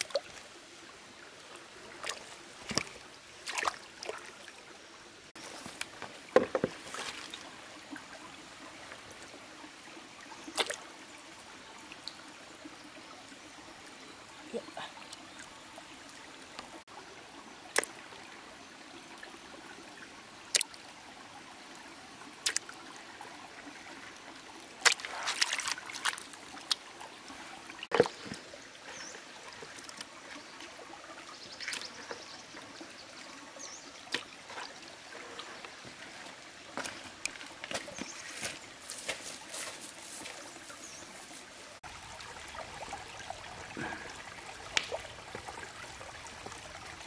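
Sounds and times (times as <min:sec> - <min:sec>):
water trickling: 0:00.0 - 0:47.0.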